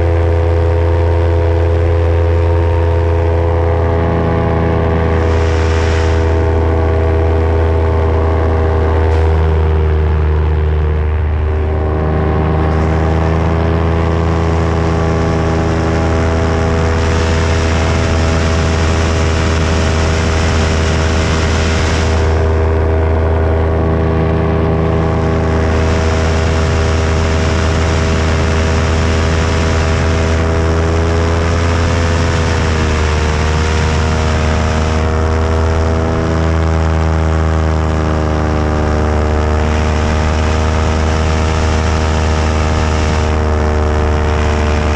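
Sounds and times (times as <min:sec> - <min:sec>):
paramotor engine running: 0:00.0 - 0:44.9.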